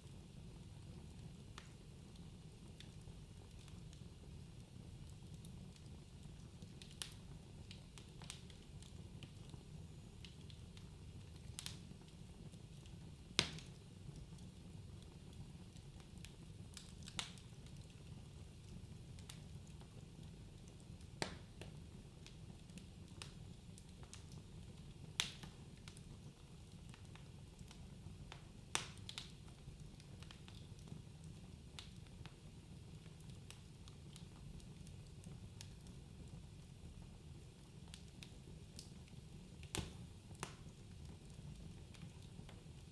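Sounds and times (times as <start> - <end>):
low rumble of flames: 0.0 - 42.9
fire pops and snaps: 0.9 - 4.4, 5.0 - 42.9.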